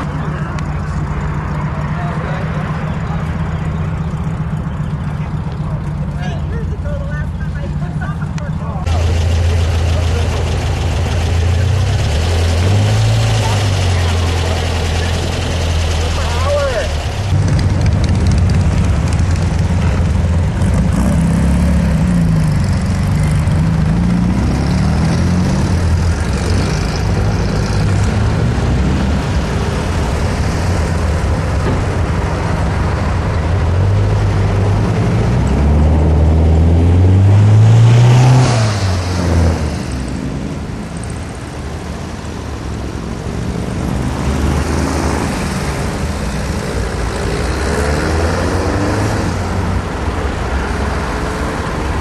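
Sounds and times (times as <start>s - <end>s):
car engines accelerating: 0.0s - 52.0s.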